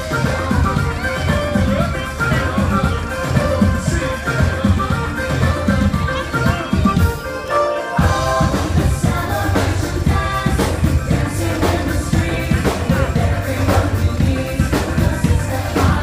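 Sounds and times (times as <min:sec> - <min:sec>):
drums and bass beat: 0:00.0 - 0:07.3, 0:08.0 - 0:16.0
upbeat carnival music with singing: 0:00.0 - 0:16.0.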